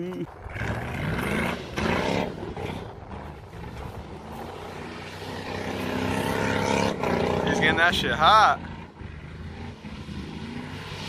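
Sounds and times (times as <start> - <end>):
pickup truck engine revving: 0.3 - 11.0.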